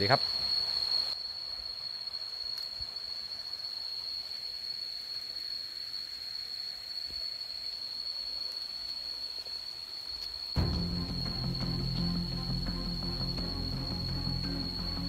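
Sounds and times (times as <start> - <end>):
faint steady hiss: 0.0 - 15.0
insects droning: 0.0 - 15.0.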